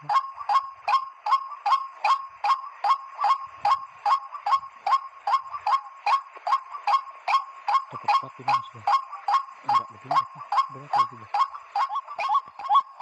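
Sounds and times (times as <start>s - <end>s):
waterhen call: 0.0s - 13.0s.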